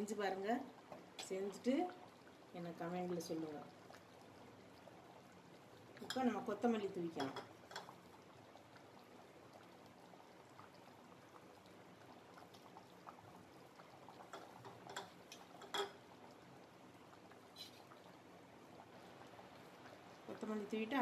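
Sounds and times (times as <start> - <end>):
curry bubbling in a pot: 0.0 - 21.0.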